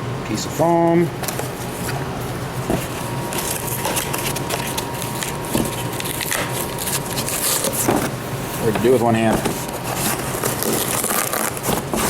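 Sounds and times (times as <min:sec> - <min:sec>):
packaging crinkling: 0:01.2 - 0:12.0.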